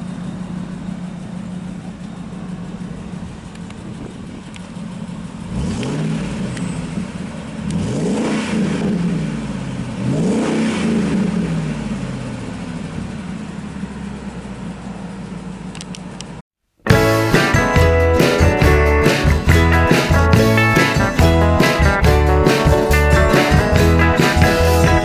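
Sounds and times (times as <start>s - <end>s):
truck engine idling and revving: 0.0s - 25.0s.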